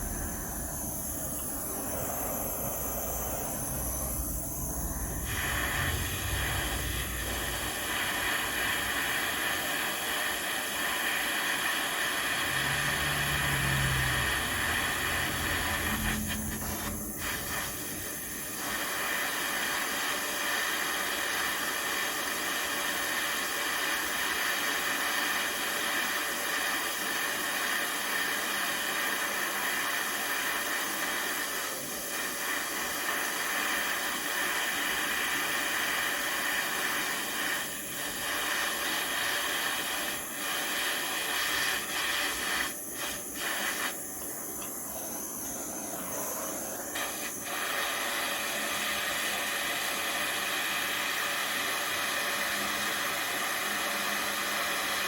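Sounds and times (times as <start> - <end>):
gas torch flame hissing: 0.0 - 55.0.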